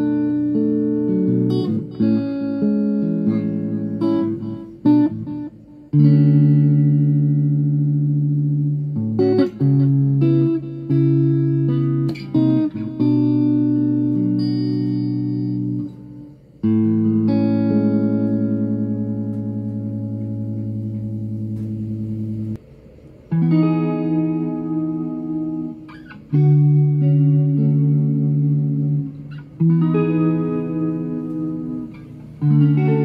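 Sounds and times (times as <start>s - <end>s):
electric guitar chords ringing: 0.0s - 33.0s.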